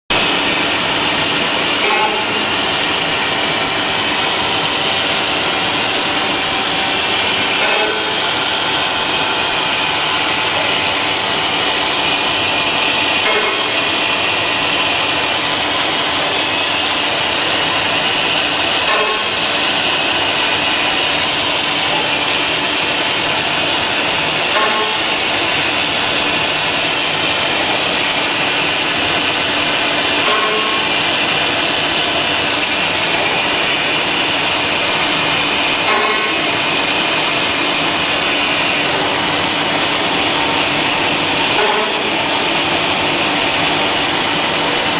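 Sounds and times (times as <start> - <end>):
cnc router drilling: 0.1 - 44.9.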